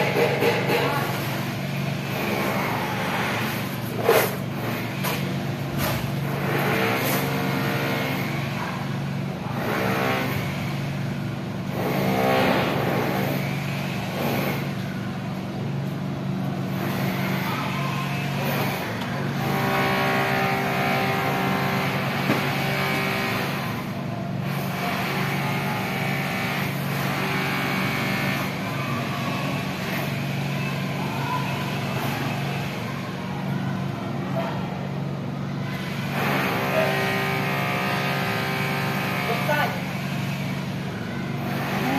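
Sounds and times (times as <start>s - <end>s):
vehicle engines humming: 0.0s - 41.9s.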